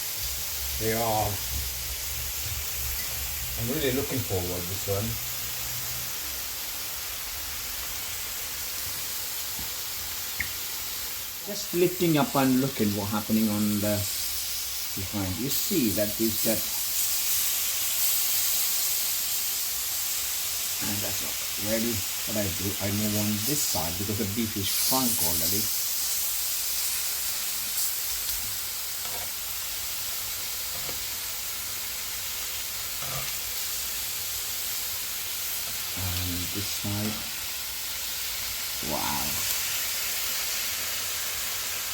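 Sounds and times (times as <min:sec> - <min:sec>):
meat sizzling on a skillet: 0:00.0 - 0:41.9.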